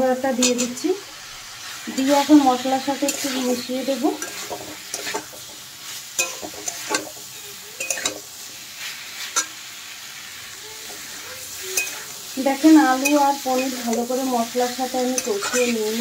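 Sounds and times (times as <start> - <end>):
masala sizzling in oil: 0.0 - 16.0
metal spatula scraping metal pan: 1.6 - 9.6, 10.8 - 16.0.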